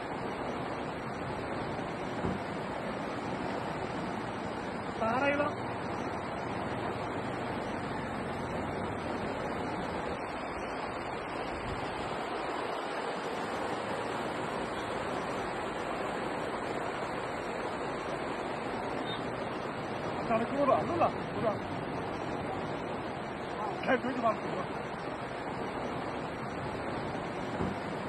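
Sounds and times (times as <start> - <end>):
river floodwater rushing: 0.0 - 28.0.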